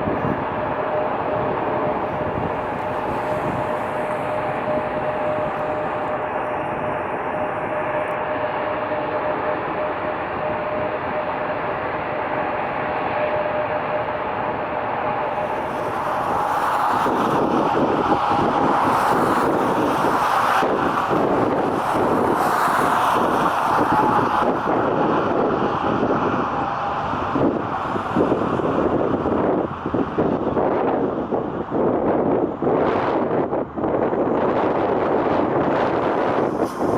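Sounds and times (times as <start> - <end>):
jet airliner engines: 0.0 - 36.9
wind buffeting microphone: 0.0 - 36.9.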